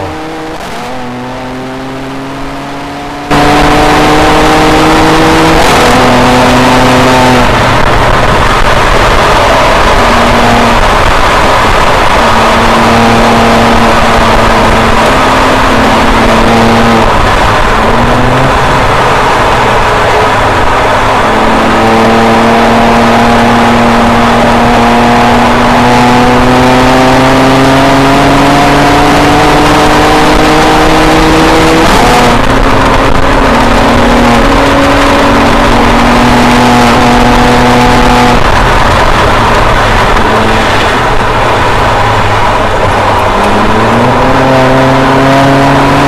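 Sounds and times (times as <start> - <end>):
car engine accelerating: 0.0 - 46.0
wind and road noise: 0.0 - 46.0.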